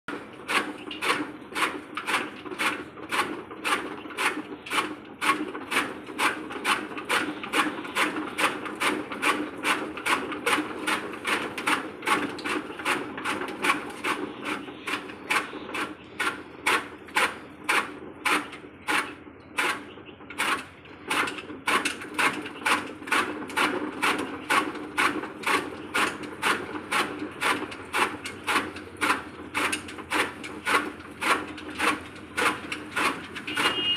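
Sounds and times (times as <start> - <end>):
chaff cutter chopping fodder: 0.1 - 33.9.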